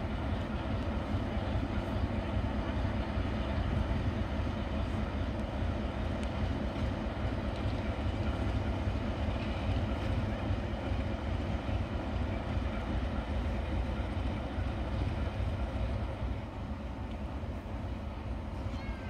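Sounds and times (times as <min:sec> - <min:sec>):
locomotive diesel engine rumbling: 0:00.0 - 0:19.0.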